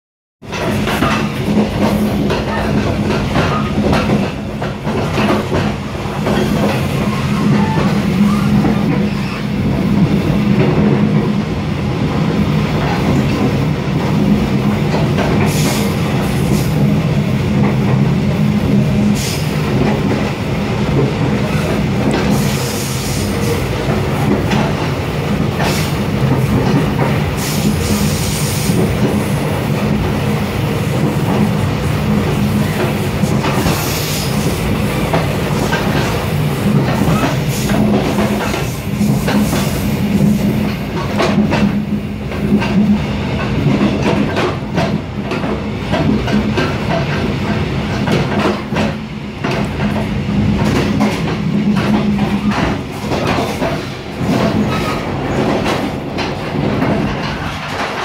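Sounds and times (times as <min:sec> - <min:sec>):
train rumble inside carriage: 0:00.4 - 0:58.0.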